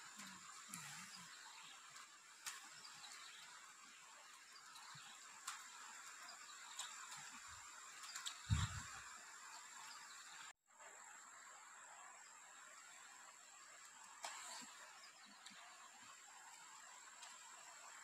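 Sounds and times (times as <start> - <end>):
light hiss: 0.0 - 11.4, 12.0 - 18.0.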